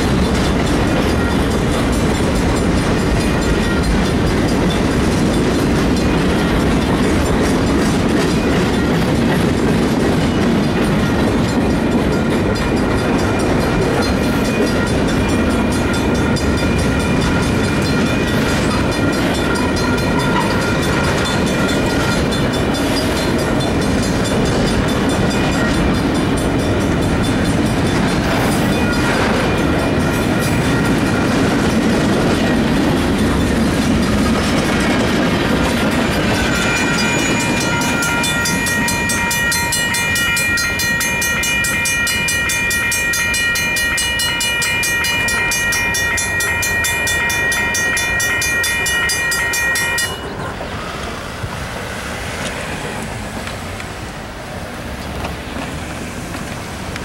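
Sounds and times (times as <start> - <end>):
crossing bell ringing: 0.0 - 50.8
freight train wheels on rails: 0.0 - 57.0
train cars clattering: 0.0 - 57.0.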